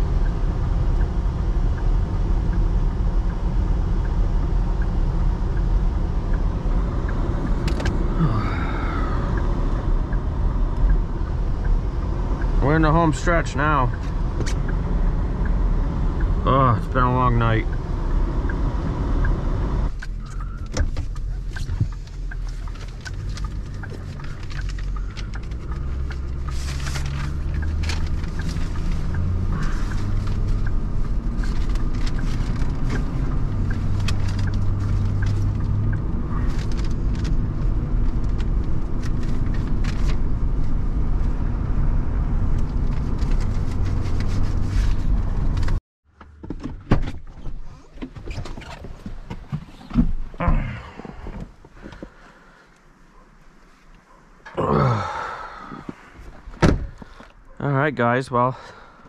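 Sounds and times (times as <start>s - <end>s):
pickup engine and road drone: 0.0s - 59.0s.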